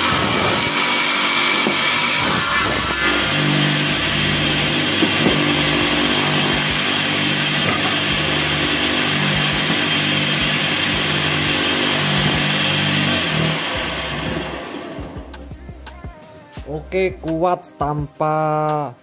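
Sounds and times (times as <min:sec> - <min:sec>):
table saw running: 0:00.0 - 0:15.6.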